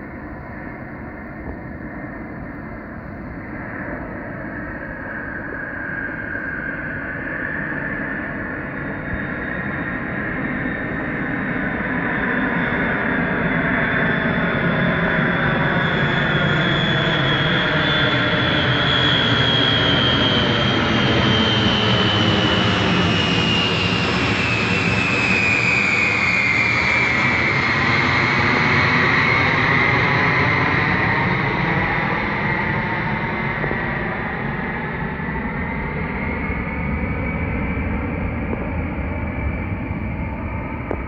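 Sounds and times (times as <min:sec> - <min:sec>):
jet passing overhead: 0:00.5 - 0:41.0.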